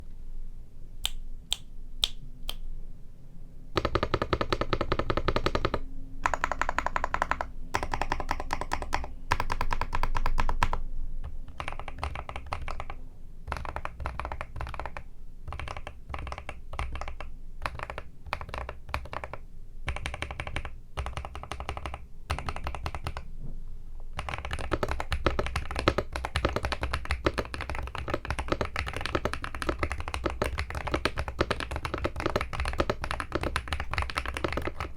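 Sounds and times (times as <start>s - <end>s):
mechanical keyboard typing: 3.8s - 23.3s, 24.2s - 34.9s.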